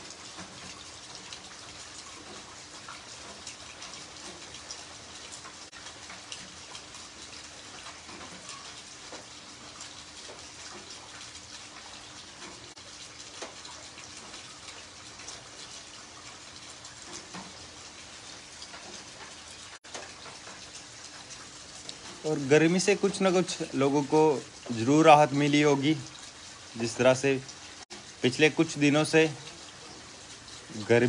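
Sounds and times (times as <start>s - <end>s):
heavy rain on wet concrete: 0.0s - 31.0s.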